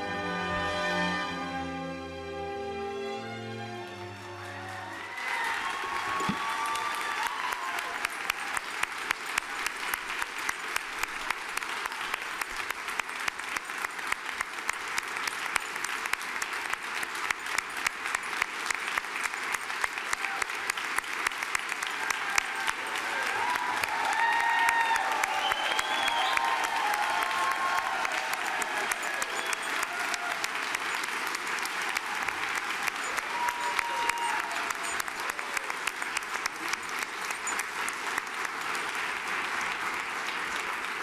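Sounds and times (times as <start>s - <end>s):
crowd applauding: 3.7s - 41.0s.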